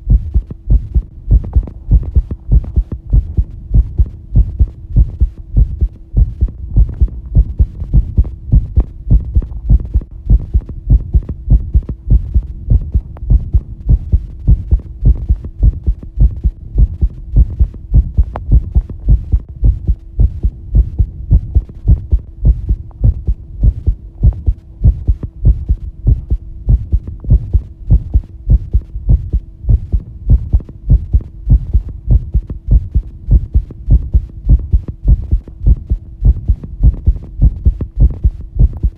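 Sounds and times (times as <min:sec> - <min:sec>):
faint steady hum: 0:00.0 - 0:38.9
fast heartbeat thumps: 0:00.0 - 0:38.9.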